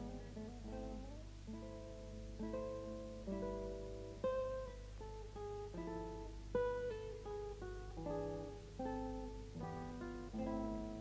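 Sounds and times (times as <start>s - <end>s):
guitar plucking: 0.0s - 11.0s.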